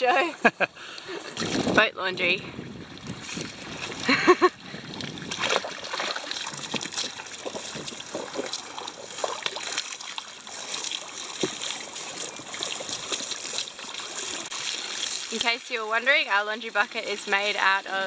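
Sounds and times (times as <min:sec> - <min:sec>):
water splashing in a plastic bucket: 0:01.3 - 0:16.0.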